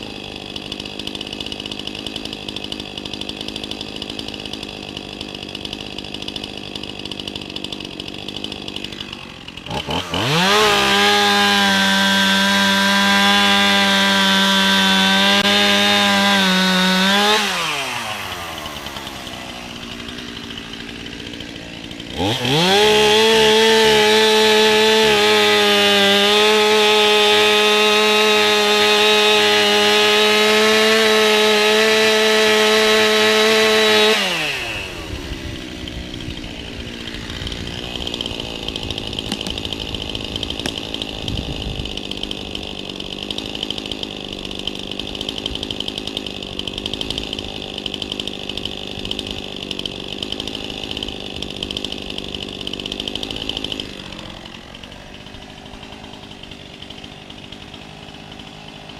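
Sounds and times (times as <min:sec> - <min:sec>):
chainsaw engine revving: 0:00.0 - 0:58.9.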